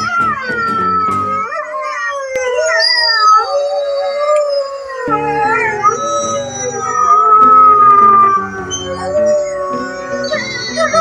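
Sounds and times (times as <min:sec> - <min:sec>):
wolves howling: 0:00.9 - 0:11.0.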